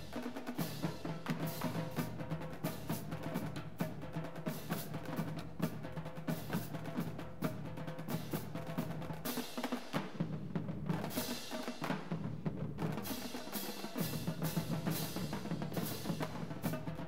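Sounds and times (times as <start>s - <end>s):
snare drums: 0.0s - 17.0s
tenor drums: 0.0s - 17.0s.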